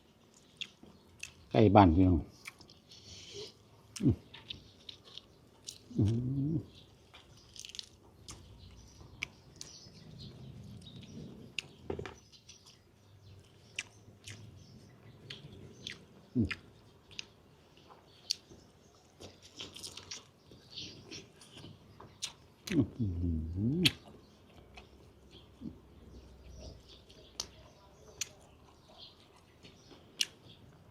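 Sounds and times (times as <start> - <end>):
person chewing: 0.1 - 1.5, 2.3 - 8.5, 10.7 - 25.9, 27.0 - 30.5.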